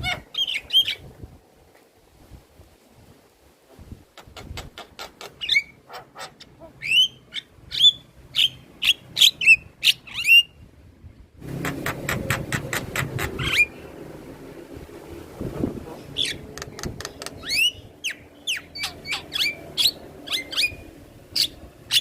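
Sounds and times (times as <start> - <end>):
background hiss and rumble: 0.0 - 22.0.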